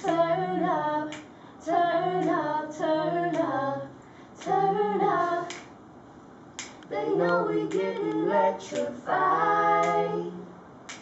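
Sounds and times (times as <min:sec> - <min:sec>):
young woman singing a cappella: 0:00.0 - 0:05.7, 0:06.9 - 0:10.5.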